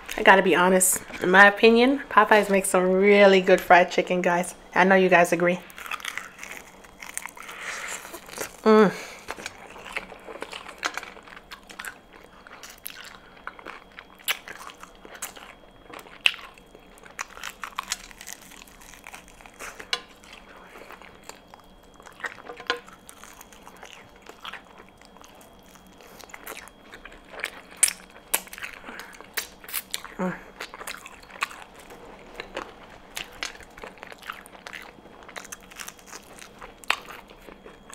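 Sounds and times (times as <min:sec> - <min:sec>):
chewing crispy fried chicken: 0:05.6 - 0:37.9.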